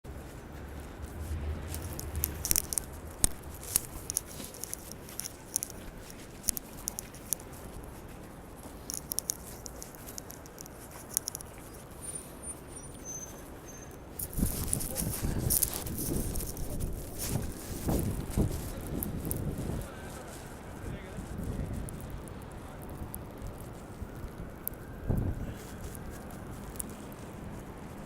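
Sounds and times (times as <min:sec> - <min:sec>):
snow crackling: 0:00.1 - 0:12.3, 0:14.0 - 0:28.0
faint city hum: 0:00.1 - 0:28.0.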